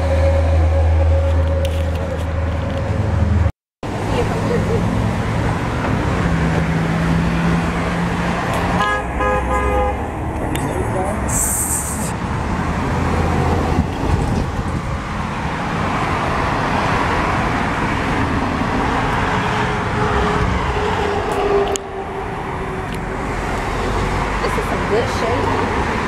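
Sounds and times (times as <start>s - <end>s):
cars driving past: 0.0s - 26.0s.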